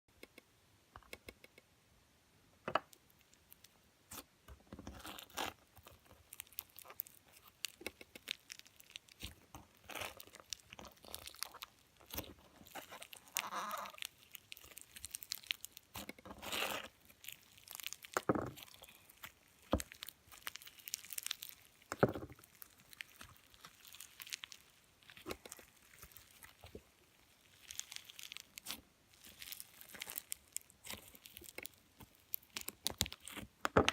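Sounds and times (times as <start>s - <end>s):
slime and rice crunching: 4.9s - 33.8s.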